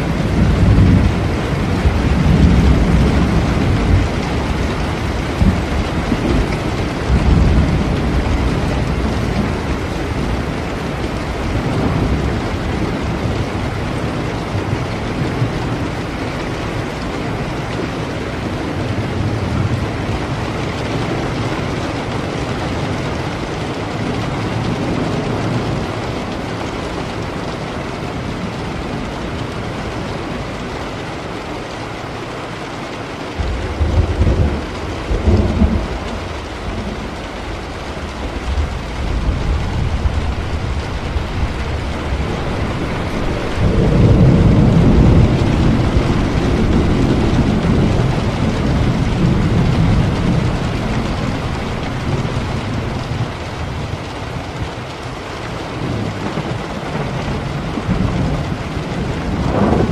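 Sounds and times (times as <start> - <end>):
thunder rumbling: 0.0 - 30.7, 33.2 - 59.9
steady rain: 0.0 - 59.9.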